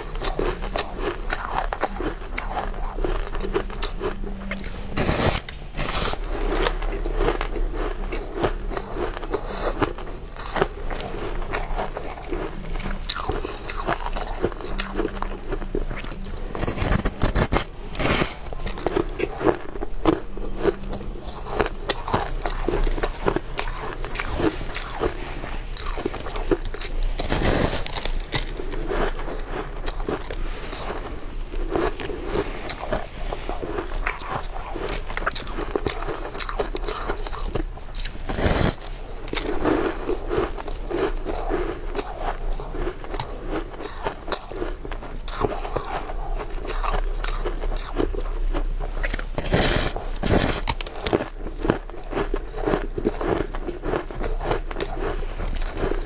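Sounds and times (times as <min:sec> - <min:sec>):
crunching ice with teeth: 0:00.0 - 0:56.0.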